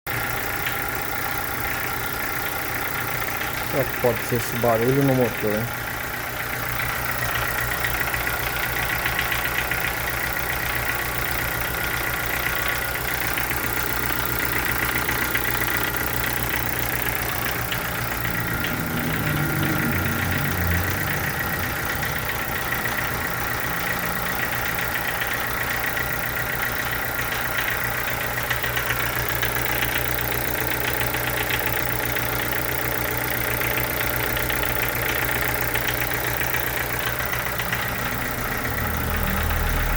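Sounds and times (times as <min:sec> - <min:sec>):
car engine idling with ticking: 0:00.1 - 0:39.9.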